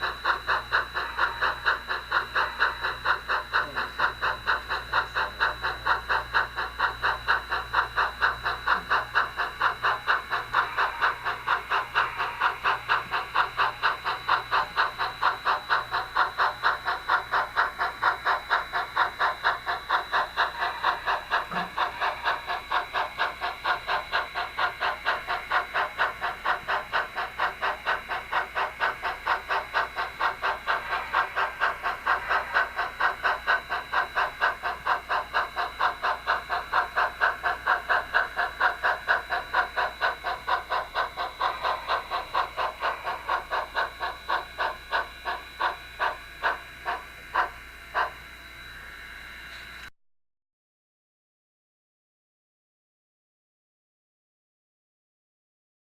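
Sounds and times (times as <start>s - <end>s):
model train rhythmic pulse: 0.0s - 49.9s.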